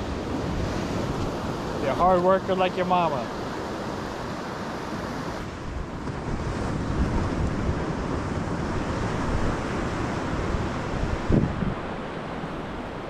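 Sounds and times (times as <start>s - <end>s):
ocean surf washing: 0.0s - 13.0s
wind buffeting microphone: 0.0s - 13.0s.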